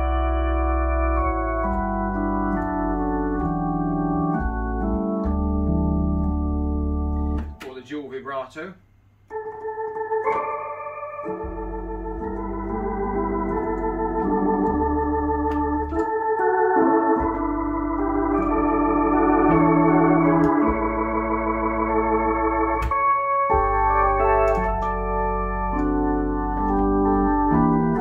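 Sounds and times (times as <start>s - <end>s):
organ playing chords with vibrato: 0.0s - 8.0s, 9.3s - 28.0s.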